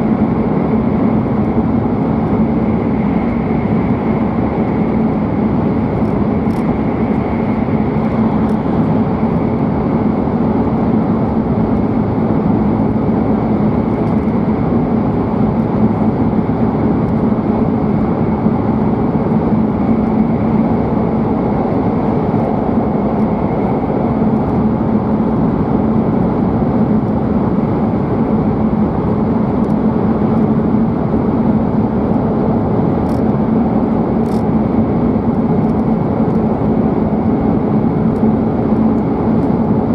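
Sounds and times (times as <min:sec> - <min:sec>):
train cabin rumble and rush: 0:00.0 - 0:39.9.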